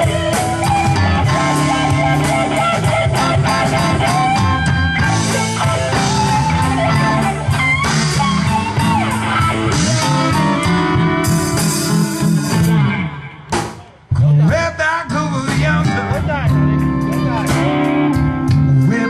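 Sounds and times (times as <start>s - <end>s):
electric guitar lead notes bending: 0.0s - 19.0s
rock band playing: 0.0s - 19.0s.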